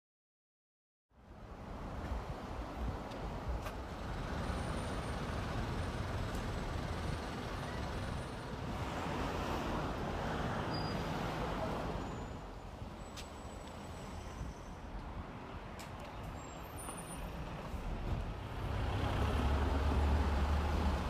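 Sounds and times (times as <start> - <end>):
road traffic passing: 1.2 - 21.0.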